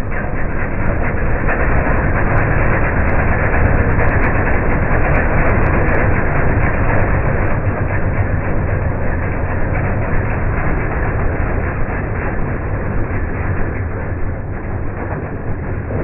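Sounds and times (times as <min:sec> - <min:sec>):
chipper shredder engine running: 0:00.0 - 0:16.0.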